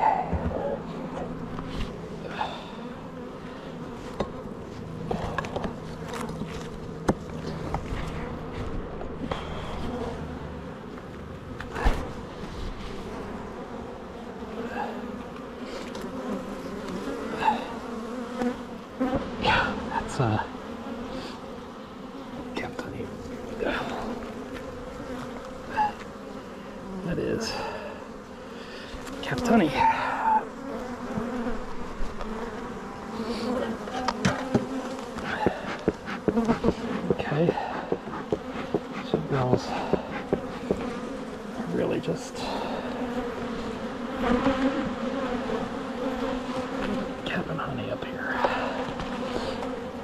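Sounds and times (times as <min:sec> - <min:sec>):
honeybees buzzing: 0:00.0 - 0:50.0
single bee buzzing close by: 0:00.0 - 0:50.0.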